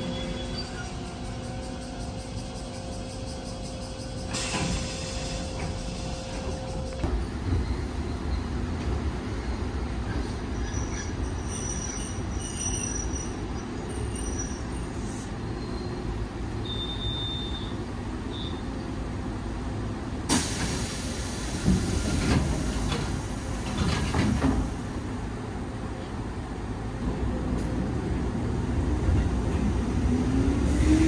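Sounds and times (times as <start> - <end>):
electric train rumble: 0.0 - 16.6, 17.8 - 31.0.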